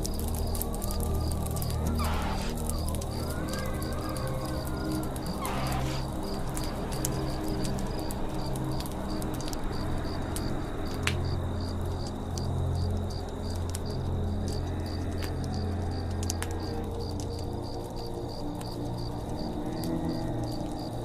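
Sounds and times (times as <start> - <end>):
campfire crackling and popping: 0.0 - 21.0
cricket chirping: 0.0 - 21.0
low steady drone: 0.0 - 21.0.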